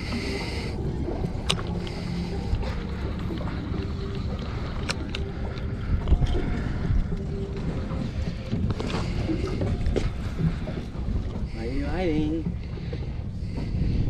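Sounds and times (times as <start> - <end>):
water against boat hull: 0.0 - 14.0
wind buffeting microphone: 0.0 - 14.0.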